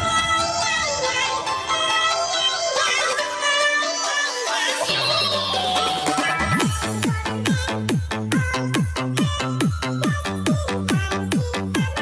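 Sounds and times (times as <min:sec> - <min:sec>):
music with auto-tuned singing: 0:00.0 - 0:12.0.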